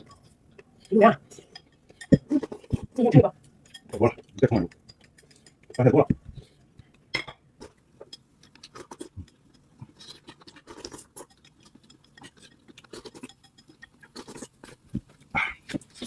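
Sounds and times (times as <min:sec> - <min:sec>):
soft eating sounds: 0:00.0 - 0:16.0.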